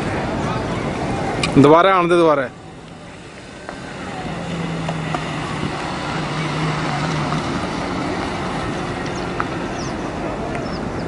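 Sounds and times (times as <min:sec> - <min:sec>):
car engine hum: 0:00.0 - 0:11.0
tyres on dirt ground: 0:00.0 - 0:11.0.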